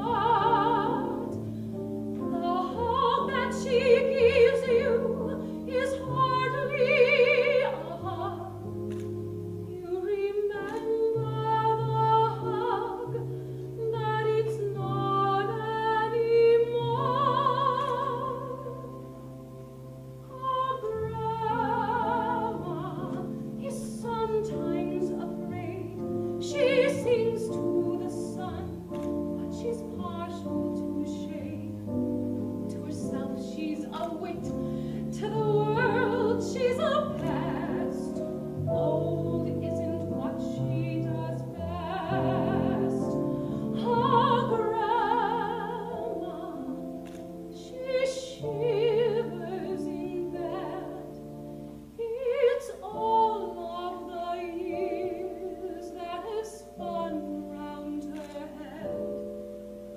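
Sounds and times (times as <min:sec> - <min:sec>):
woman singing operatic ballad: 0:00.0 - 0:19.6, 0:20.2 - 0:59.5.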